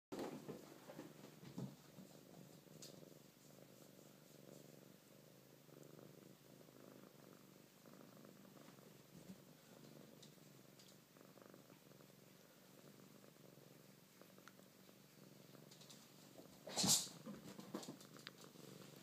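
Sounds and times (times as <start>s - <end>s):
cat purring: 0.2s - 19.0s.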